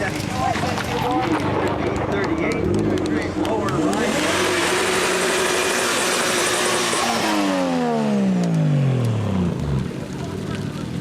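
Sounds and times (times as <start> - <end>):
drag racing engine at full throttle: 0.0 - 11.0.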